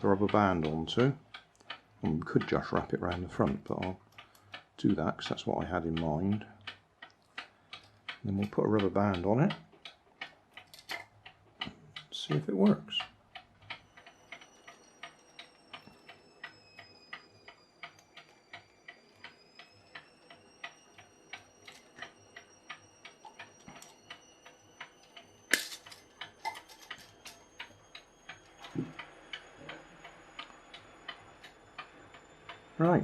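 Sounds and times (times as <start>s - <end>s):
clock ticking: 0.0s - 33.0s.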